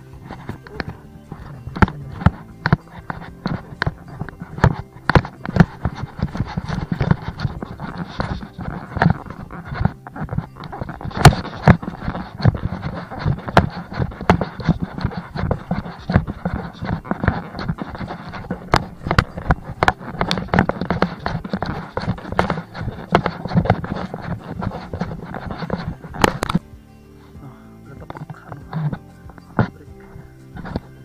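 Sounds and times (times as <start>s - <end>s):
footsteps on a trail: 0.0s - 31.0s
knocks and scrapes: 0.0s - 31.0s.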